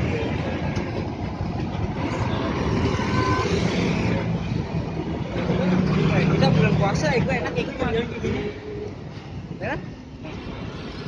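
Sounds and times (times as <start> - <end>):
heavy road traffic rumble: 0.0 - 11.0.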